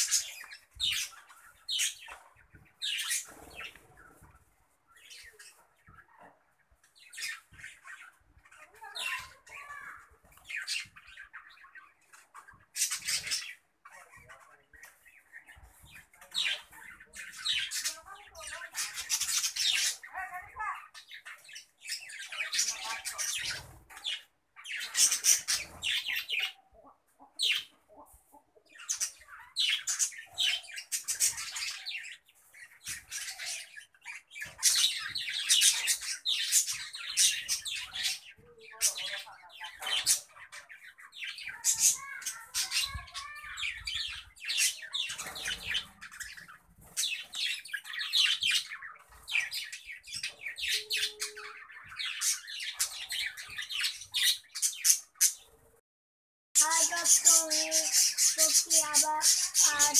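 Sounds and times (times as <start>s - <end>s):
budgerigars chattering and squawking: 0.0s - 55.8s, 56.6s - 59.9s.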